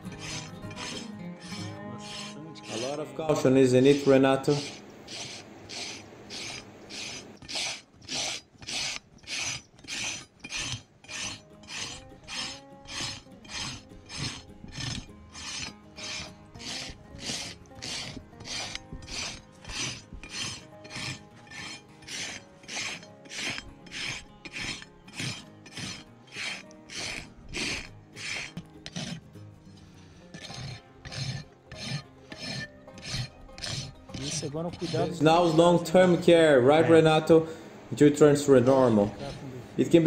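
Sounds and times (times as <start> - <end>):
hoof rasp filing hoof: 0.0 - 36.9, 38.6 - 39.5.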